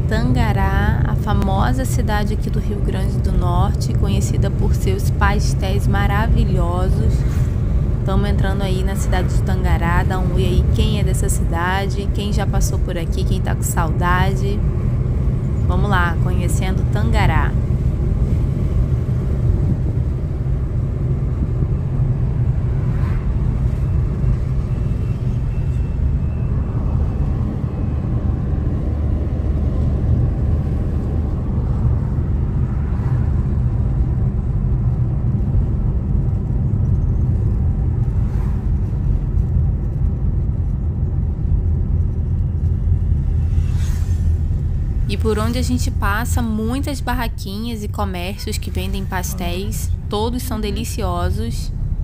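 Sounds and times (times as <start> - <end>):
car road rumble from inside: 0.0 - 52.0.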